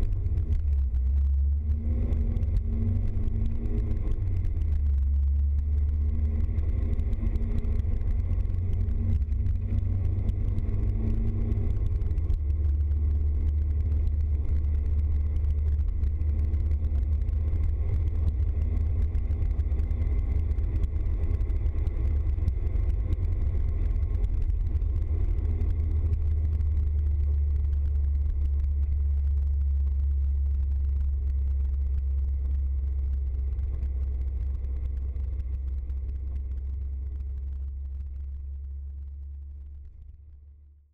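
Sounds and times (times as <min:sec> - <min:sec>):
van engine and tyres on wet road: 0:00.0 - 0:40.6.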